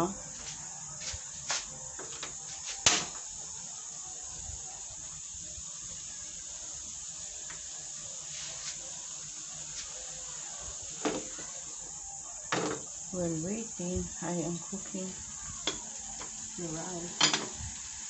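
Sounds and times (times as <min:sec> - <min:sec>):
vegetables sizzling in frying pan: 0:00.0 - 0:18.0.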